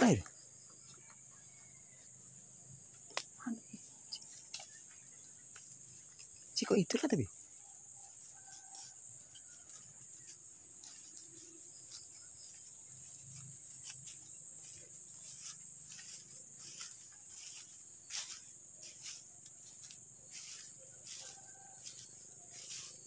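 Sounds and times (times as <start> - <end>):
insect chorus: 0.0 - 23.0
footsteps through dry grass: 2.9 - 23.0.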